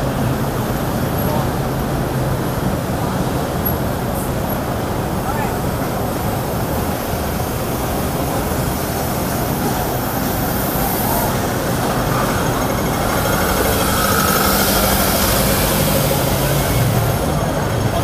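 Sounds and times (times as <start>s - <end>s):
crowd noise: 0.0s - 18.0s
traffic and vehicle engines: 0.0s - 18.0s.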